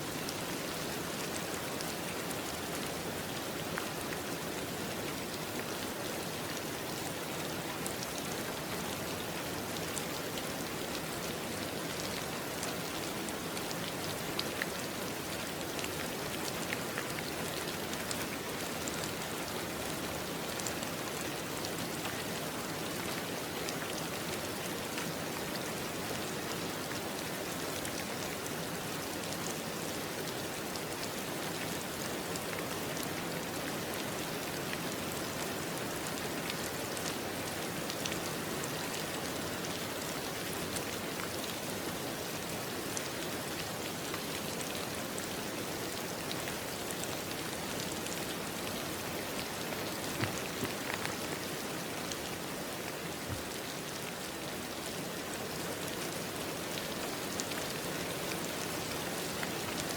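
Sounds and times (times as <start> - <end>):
rain pattering: 0.1 - 59.9.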